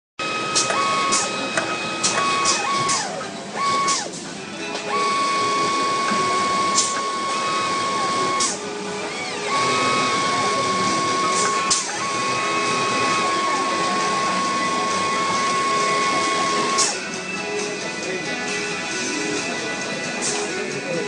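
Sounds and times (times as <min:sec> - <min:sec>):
sewing machine motor whine: 0:00.2 - 0:17.2.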